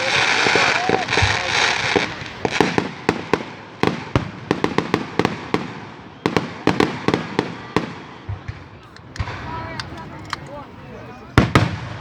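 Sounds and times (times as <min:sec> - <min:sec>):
fireworks crackling pops: 0:00.0 - 0:12.0
fireworks fizzing: 0:00.0 - 0:12.0.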